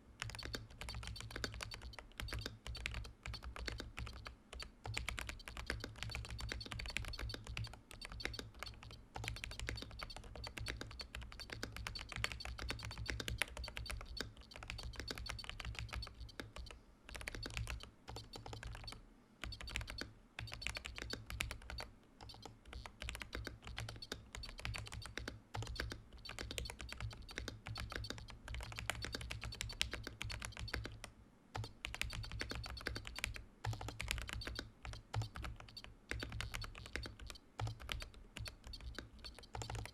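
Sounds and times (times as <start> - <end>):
fast mechanical keyboard typing: 0.2 - 39.9.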